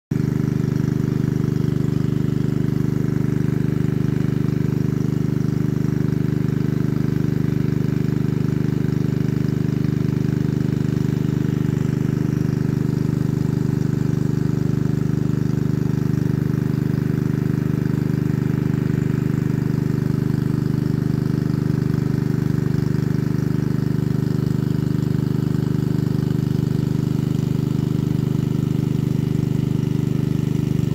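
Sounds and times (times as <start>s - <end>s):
engine idling: 0.1s - 30.9s.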